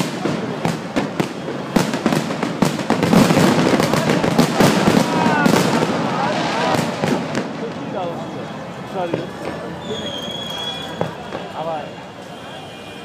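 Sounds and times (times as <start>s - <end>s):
fireworks bangs and crackling: 0.0s - 12.4s.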